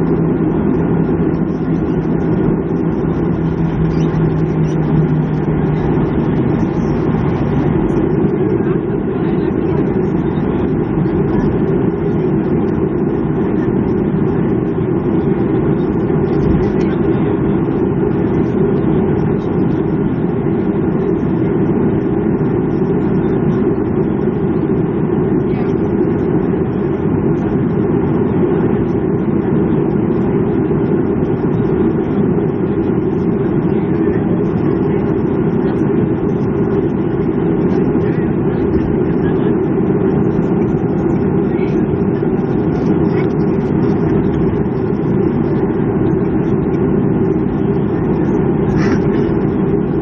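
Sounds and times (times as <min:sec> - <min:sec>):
jet engines idling in cabin: 0:00.0 - 0:50.0.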